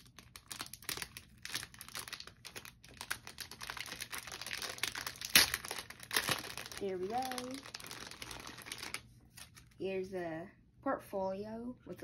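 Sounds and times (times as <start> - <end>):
packaging crinkling and clicking: 0.0 - 9.8.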